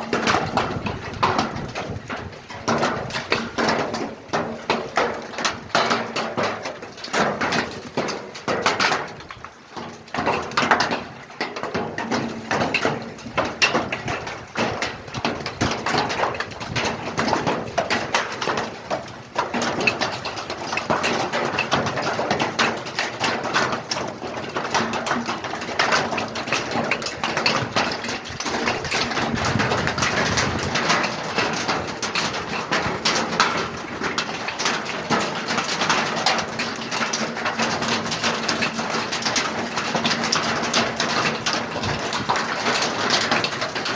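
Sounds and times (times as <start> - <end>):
heavy rain pelting a hard surface: 0.0 - 43.9.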